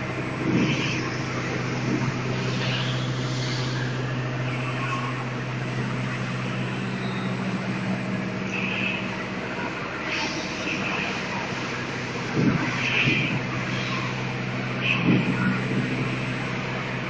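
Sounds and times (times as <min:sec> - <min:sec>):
assembly line machinery humming: 0:00.0 - 0:17.0.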